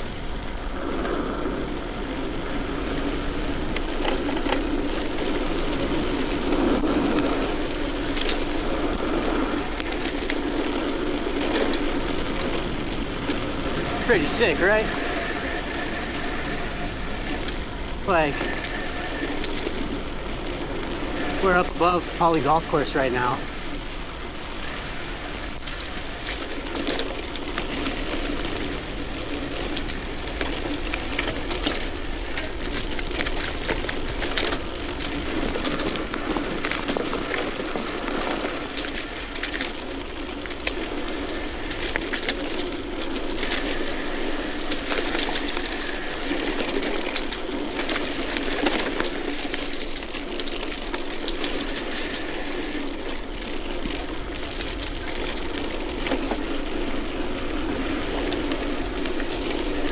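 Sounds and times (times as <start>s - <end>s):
small clicks and rattles: 0.0s - 22.2s, 23.4s - 59.9s
bicycle rolling on road: 0.0s - 59.9s.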